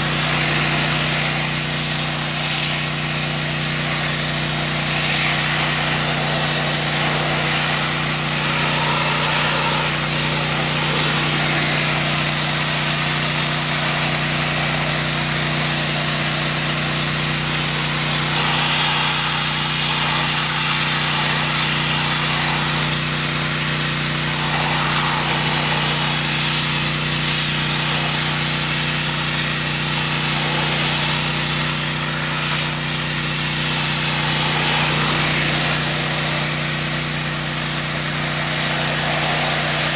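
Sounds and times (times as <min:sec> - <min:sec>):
pressure washer hum: 0:00.0 - 0:39.9
water jet hissing on wood: 0:00.0 - 0:39.9.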